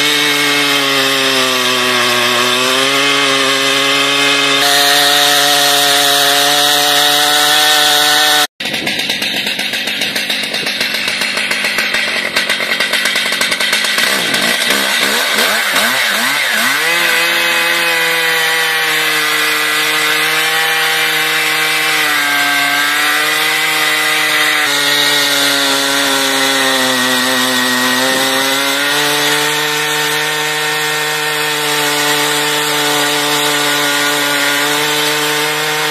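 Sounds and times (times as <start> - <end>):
chainsaw cutting log: 0.0 - 35.9.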